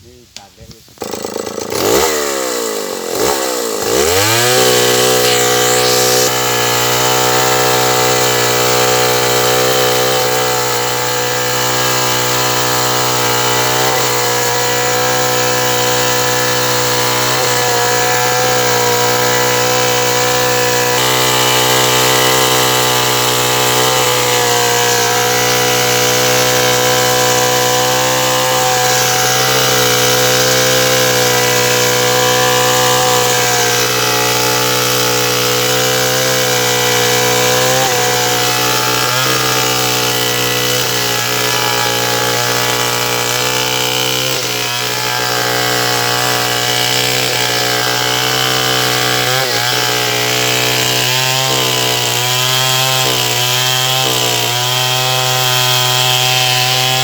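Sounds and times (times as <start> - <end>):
chainsaw revving: 0.9 - 57.0.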